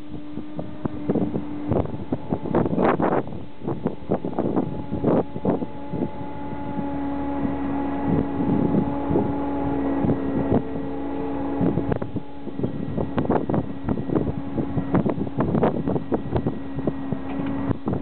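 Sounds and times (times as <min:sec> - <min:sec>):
steady engine-like drone: 0:00.0 - 0:18.0
wind buffeting microphone: 0:00.0 - 0:18.0.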